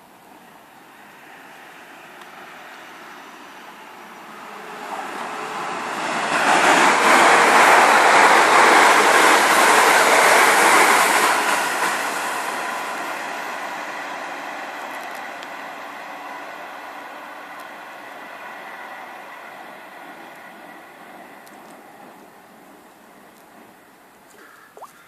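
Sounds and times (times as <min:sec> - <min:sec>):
train wheels rushing on rails: 0:00.0 - 0:24.2.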